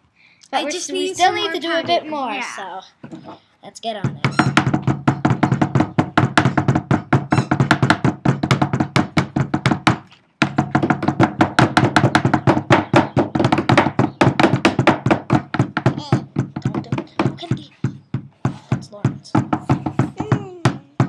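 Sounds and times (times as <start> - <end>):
rocks pounding on tabletop: 4.0 - 21.0.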